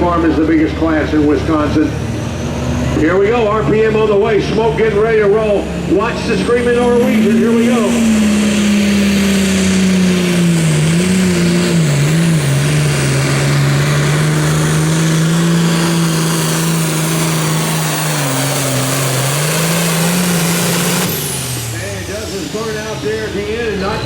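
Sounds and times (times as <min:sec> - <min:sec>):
diesel engine at full throttle: 0:00.0 - 0:24.0.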